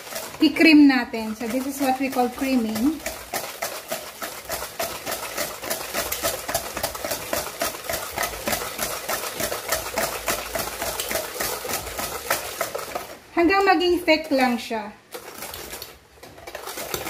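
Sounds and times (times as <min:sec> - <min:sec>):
wire whisk beating in metal bowl: 0:00.0 - 0:17.0.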